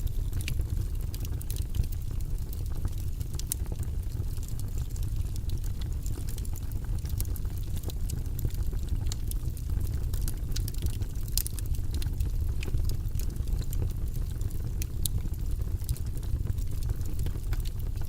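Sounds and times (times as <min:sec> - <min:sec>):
log fire crackling: 0:00.0 - 0:18.0.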